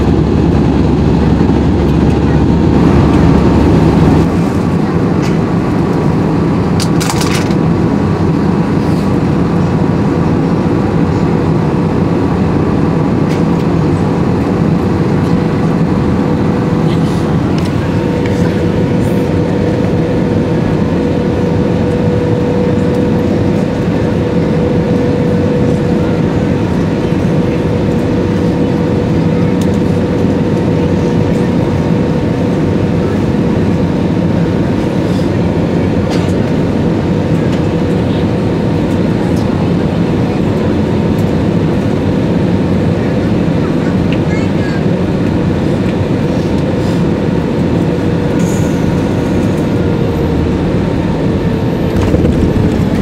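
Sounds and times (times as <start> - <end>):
airplane cabin roar: 0.0 - 53.0
steady engine hum: 0.0 - 53.0.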